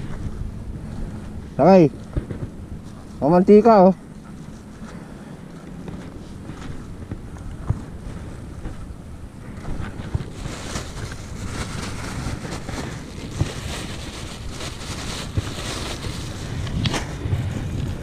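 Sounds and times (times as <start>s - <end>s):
crackly rustling: 0.0s - 18.0s
wind buffeting microphone: 0.0s - 18.0s.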